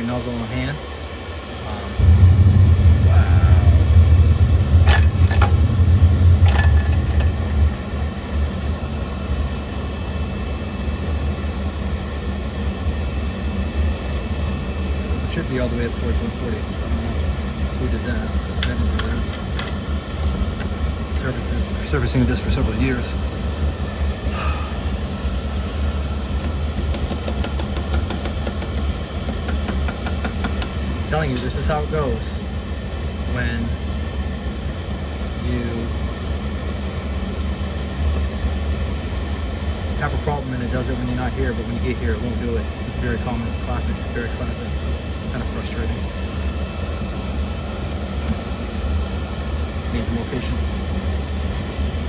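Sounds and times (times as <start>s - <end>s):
oil burner rumbling: 1.6s - 52.0s.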